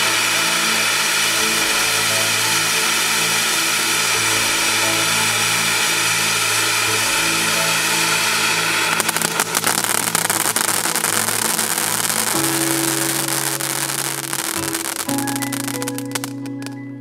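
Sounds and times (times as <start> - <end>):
dense firework crackling: 0.0 - 16.8
firework fountain hissing: 0.0 - 16.8.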